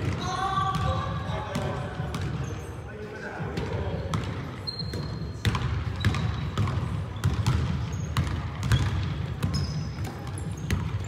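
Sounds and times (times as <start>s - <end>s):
basketball bouncing on wooden floor: 0.0s - 2.5s, 3.6s - 11.0s.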